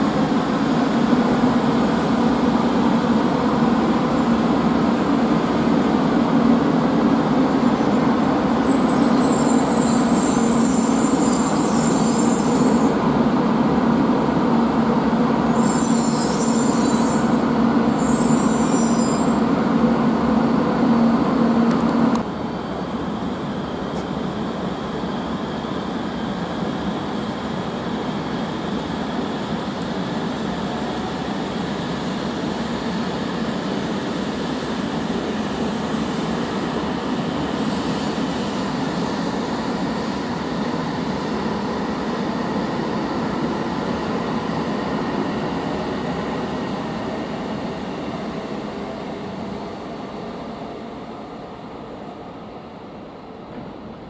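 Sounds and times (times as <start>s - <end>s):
train wheels and motors: 0.0s - 54.0s.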